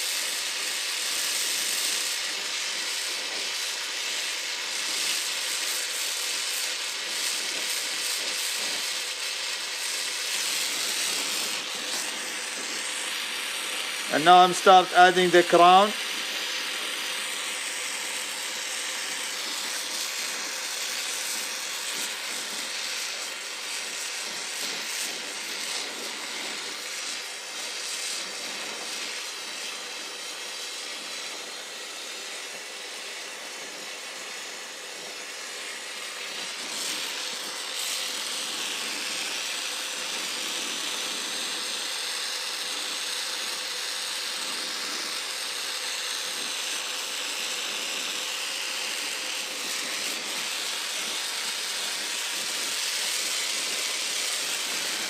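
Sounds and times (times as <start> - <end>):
torch flame hissing: 0.0 - 55.0.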